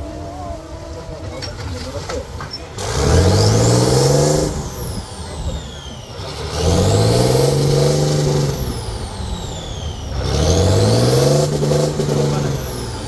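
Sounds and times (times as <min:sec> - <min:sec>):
truck diesel engine revving: 0:02.2 - 0:13.0
high whine: 0:02.5 - 0:13.0.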